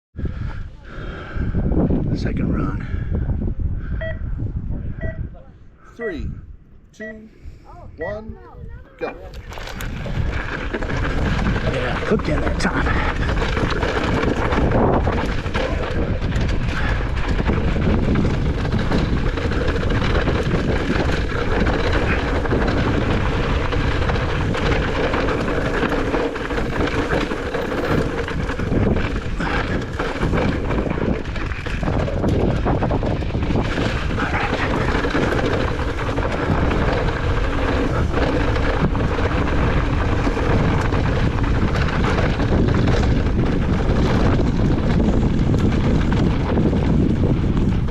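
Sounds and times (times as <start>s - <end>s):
wind blasting across microphone: 0.2s - 47.9s.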